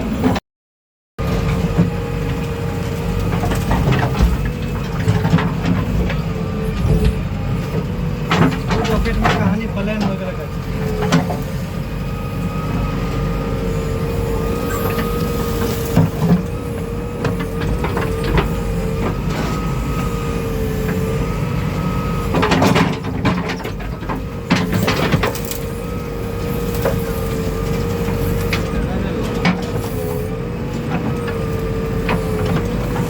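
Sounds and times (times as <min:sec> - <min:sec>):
diesel engine running: 0:00.0 - 0:00.4, 0:01.2 - 0:33.0.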